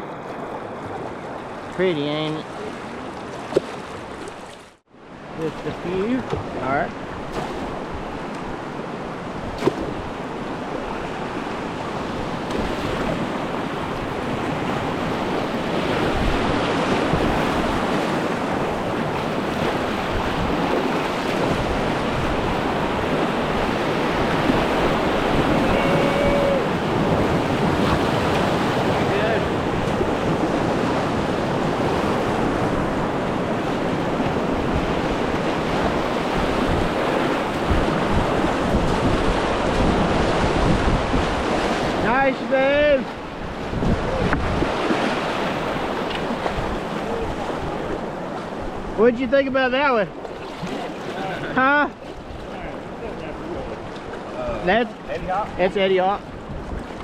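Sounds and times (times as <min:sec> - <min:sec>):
whitewater rushing: 0:09.1 - 0:56.2.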